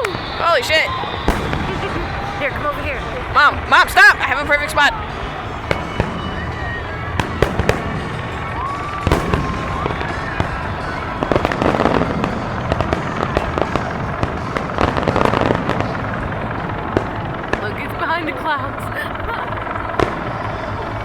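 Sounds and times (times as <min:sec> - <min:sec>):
fireworks crackling: 0:00.0 - 0:21.0
fireworks shells bursting: 0:00.0 - 0:21.0.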